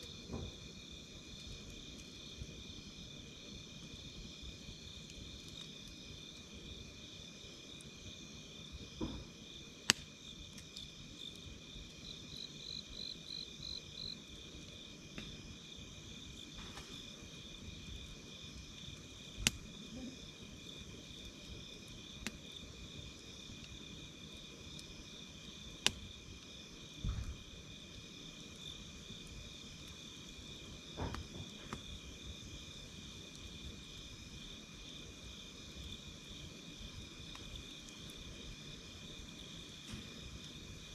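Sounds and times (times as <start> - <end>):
campfire crackling and popping: 0.0 - 40.9
night insects chirping: 0.0 - 40.9.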